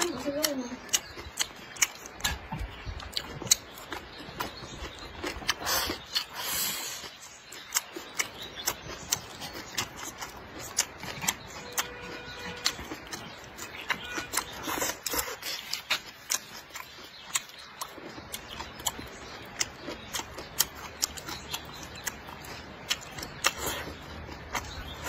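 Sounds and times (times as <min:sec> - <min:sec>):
man chewing and lip-smacking: 0:00.0 - 0:25.0.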